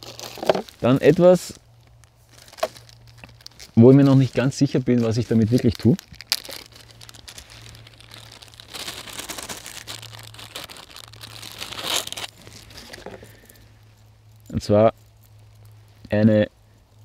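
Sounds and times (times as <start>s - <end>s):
plastic bag crinkling: 0.0s - 15.8s.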